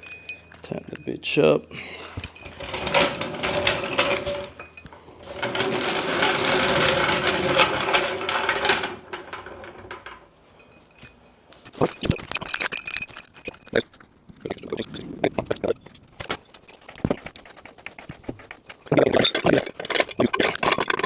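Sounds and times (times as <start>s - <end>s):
jack clicking and grinding: 2.1s - 10.3s, 11.8s - 21.0s.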